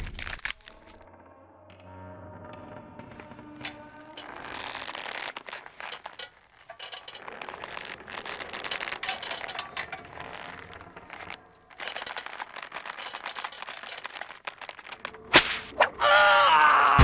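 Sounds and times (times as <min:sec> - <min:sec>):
wet crackles and clicks: 0:00.0 - 0:01.1, 0:03.2 - 0:17.0.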